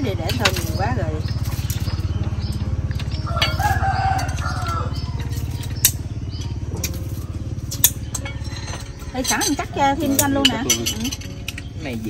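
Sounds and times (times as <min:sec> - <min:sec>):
small engine running: 0:00.0 - 0:12.0
utensils clicking on dishes: 0:00.0 - 0:12.0.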